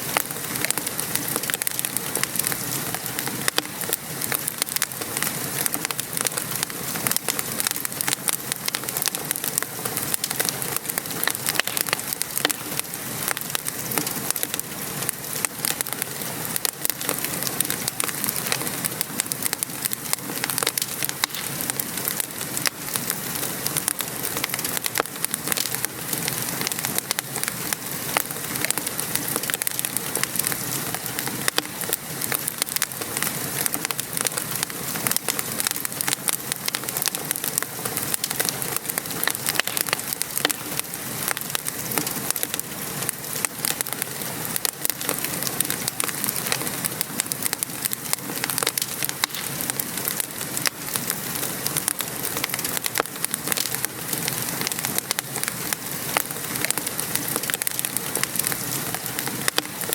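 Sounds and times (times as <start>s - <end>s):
steady rain falling: 0.0s - 59.9s
wood fire crackling and popping: 0.0s - 59.9s.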